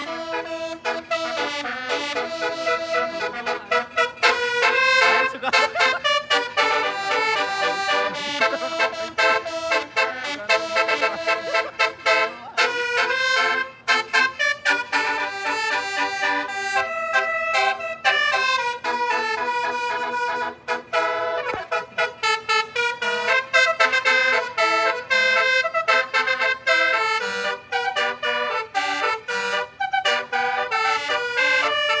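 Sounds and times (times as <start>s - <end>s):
bus air horn melody: 0.0s - 32.0s.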